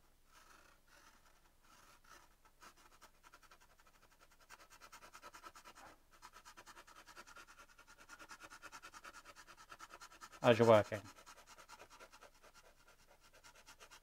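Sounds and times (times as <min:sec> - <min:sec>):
charcoal pencil scratching: 0:00.0 - 0:14.0.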